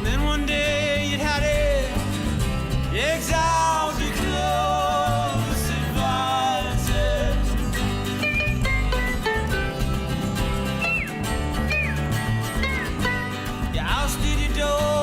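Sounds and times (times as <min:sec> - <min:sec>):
guitar: 0:00.0 - 0:15.0
low accompaniment: 0:00.0 - 0:15.0.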